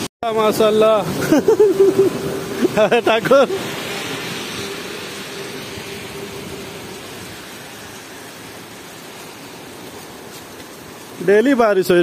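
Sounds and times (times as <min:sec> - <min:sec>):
heavy rain on street and cars: 0:00.0 - 0:12.0.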